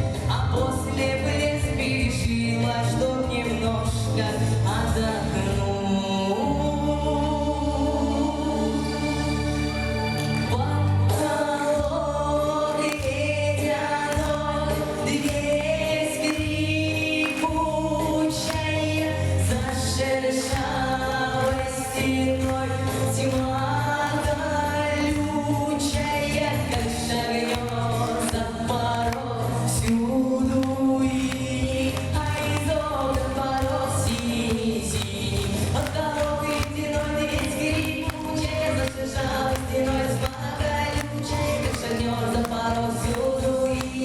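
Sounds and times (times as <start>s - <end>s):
voices singing in chorus: 6.3s - 44.0s.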